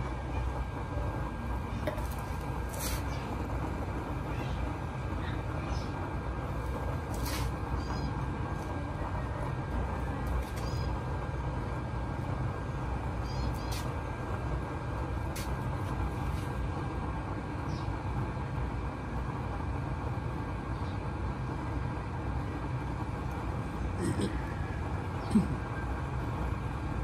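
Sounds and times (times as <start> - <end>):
burner flame roaring: 0.0 - 27.0.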